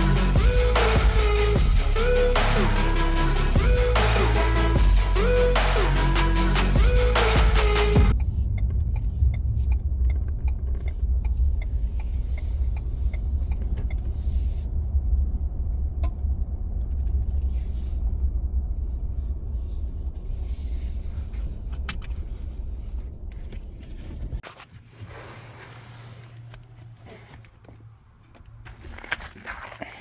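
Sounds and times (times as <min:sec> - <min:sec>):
vehicle driving rumble: 0:00.0 - 0:24.4.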